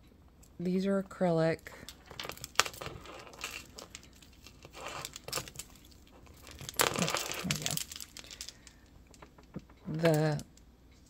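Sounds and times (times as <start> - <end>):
beads clicking: 1.7 - 11.0.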